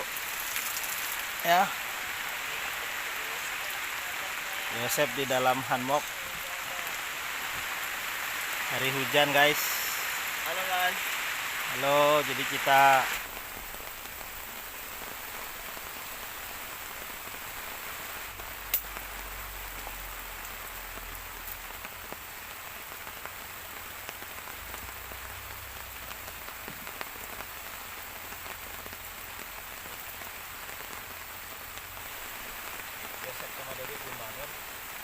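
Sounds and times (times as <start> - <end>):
rain pattering on surfaces: 0.0 - 35.0.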